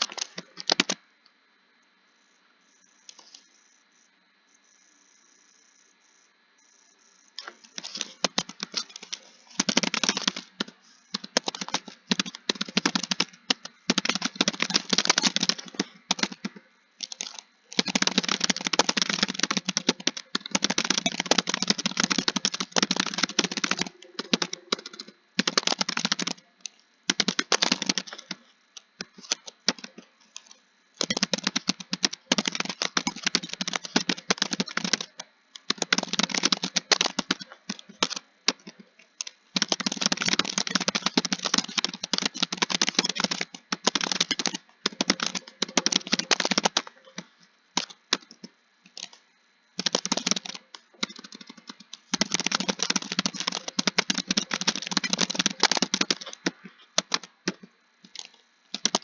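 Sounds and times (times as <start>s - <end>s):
computer keyboard typing: 0.0s - 1.0s, 7.4s - 47.2s, 49.8s - 59.0s.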